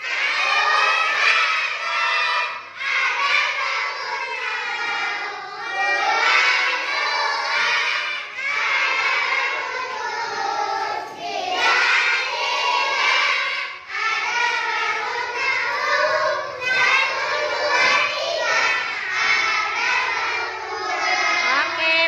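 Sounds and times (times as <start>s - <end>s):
young children singing: 0.0s - 22.0s.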